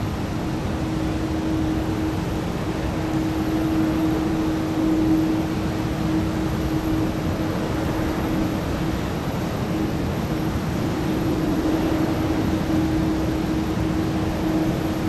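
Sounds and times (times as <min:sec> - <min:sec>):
jet engines idling: 0:00.0 - 0:15.0.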